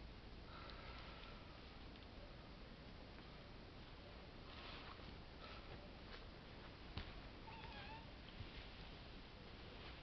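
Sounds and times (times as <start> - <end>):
faint outdoor hiss: 0.0 - 10.0
soft rustle: 0.5 - 10.0.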